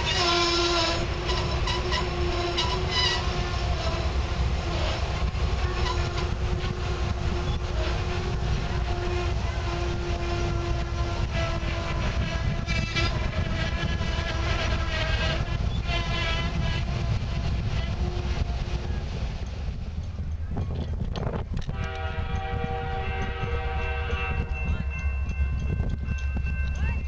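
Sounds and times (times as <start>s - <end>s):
locomotive horn: 0.0s - 19.2s, 21.6s - 25.0s
train cars rumbling on rails: 0.0s - 27.0s.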